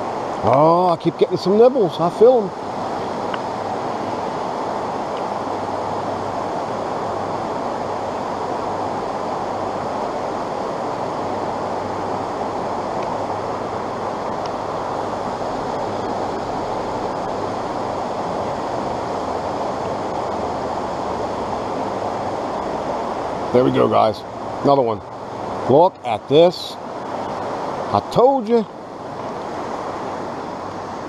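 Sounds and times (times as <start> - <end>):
stream running over rocks: 0.0 - 31.0.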